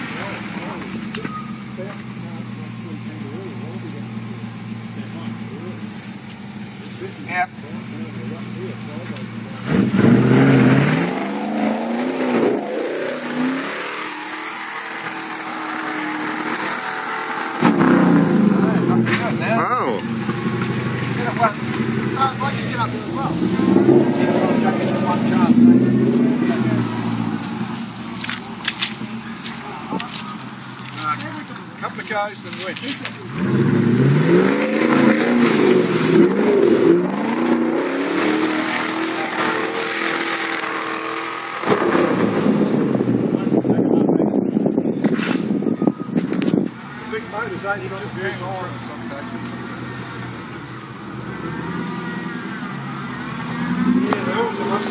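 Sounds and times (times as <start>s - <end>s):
off-road engine revving: 0.0s - 54.9s.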